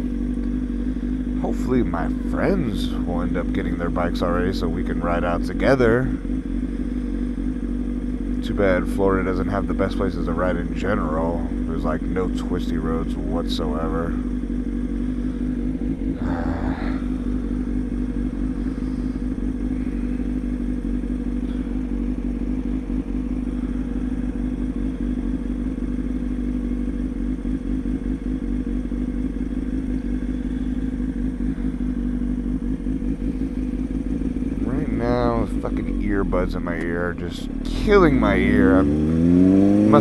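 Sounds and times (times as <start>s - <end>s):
motorcycle engine cruising: 0.0s - 40.0s.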